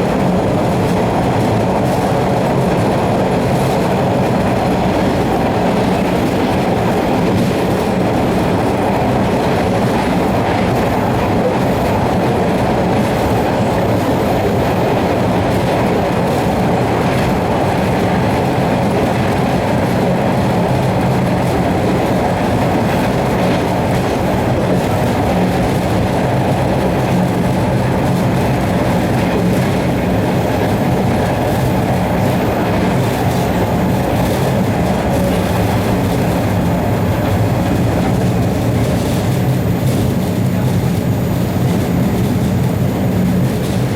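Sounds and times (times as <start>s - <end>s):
subway train wheels rumbling: 0.0s - 43.9s.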